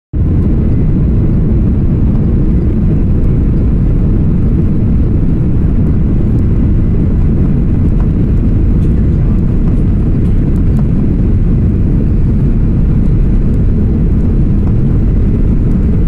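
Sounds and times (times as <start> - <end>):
jet engines rumbling in cabin: 0.2 - 16.0.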